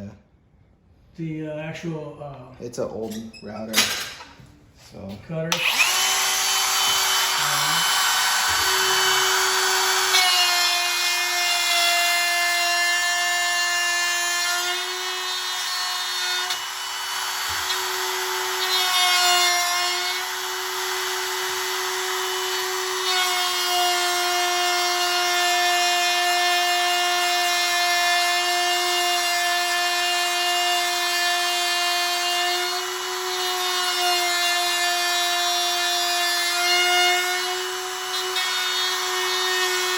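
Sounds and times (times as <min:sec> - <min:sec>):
router cutting wood: 0:05.5 - 0:39.9.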